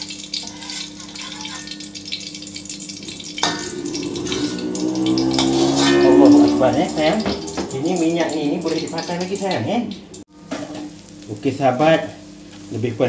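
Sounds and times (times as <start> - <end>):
oil sizzling: 0.0 - 12.8.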